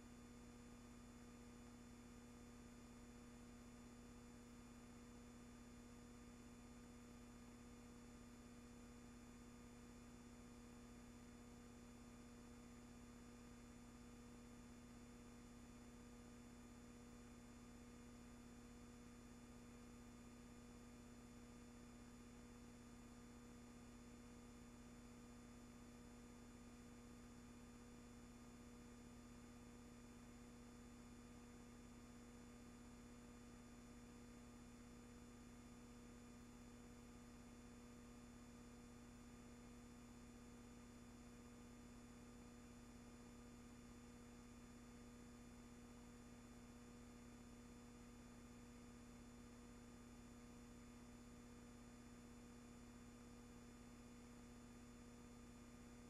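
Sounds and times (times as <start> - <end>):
faint steady hum and hiss: 0.0 - 56.0.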